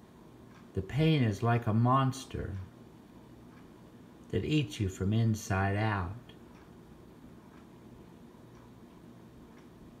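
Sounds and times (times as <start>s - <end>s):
faint regular ticking: 0.0s - 10.0s
room hum: 0.0s - 10.0s.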